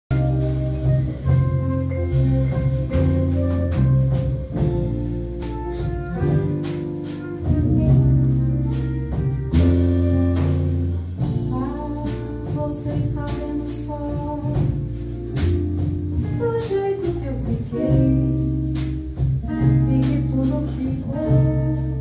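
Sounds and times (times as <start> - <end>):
bossa nova ensemble playing: 0.1 - 22.0.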